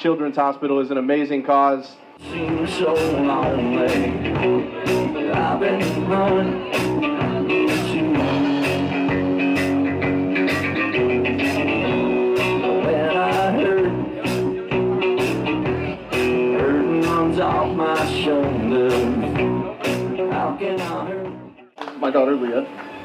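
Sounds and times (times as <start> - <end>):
live rock band playing: 2.2 - 21.5
bending guitar lead notes: 2.2 - 21.6.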